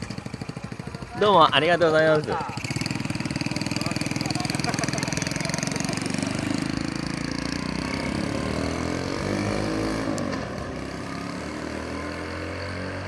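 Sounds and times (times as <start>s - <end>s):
small motorbike engine revving: 0.0s - 13.0s.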